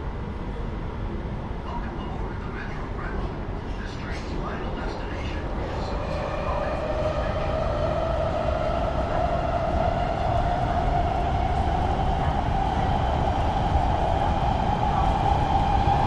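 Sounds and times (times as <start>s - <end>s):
low train rumble: 0.0s - 16.0s.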